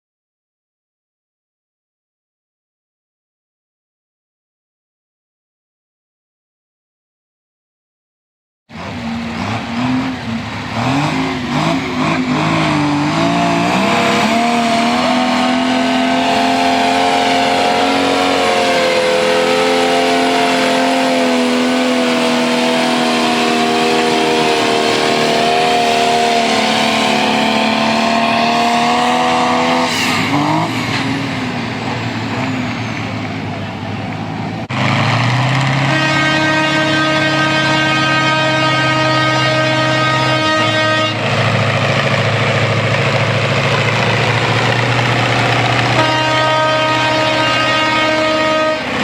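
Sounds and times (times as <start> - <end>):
tractor engine under load: 8.7 - 49.0.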